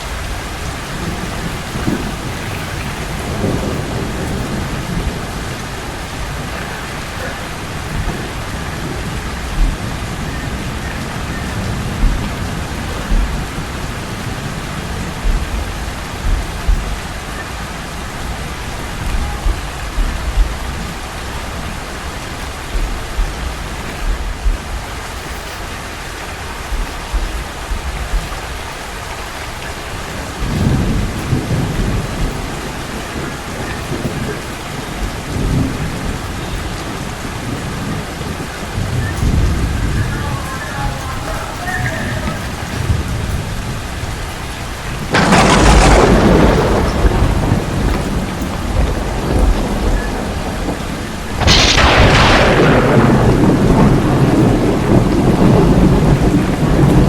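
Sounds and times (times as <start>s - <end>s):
rain falling on street: 0.0s - 57.0s
thunder rumbling: 0.0s - 57.0s.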